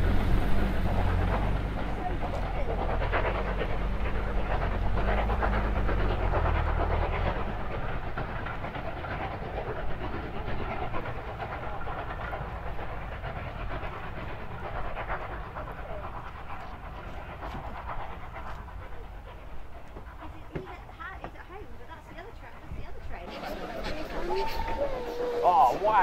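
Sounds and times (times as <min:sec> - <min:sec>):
train coaches rumbling on track: 0:00.0 - 0:26.0.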